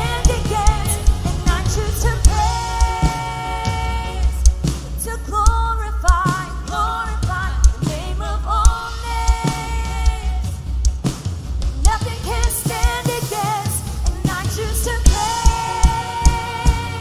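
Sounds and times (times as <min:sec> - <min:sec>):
lead singer singing: 0:00.0 - 0:10.8, 0:11.8 - 0:17.0
drums beating: 0:00.0 - 0:17.0
worship band playing: 0:00.0 - 0:17.0.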